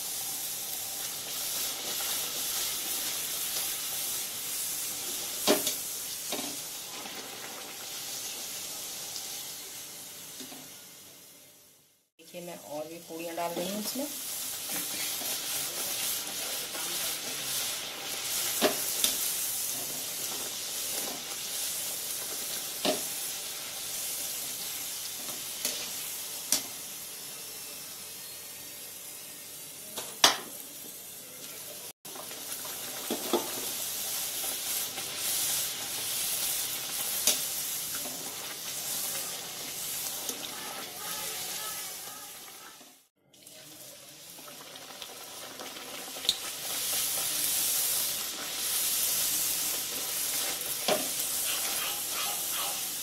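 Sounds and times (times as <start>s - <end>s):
oil sizzling: 0.0s - 53.0s.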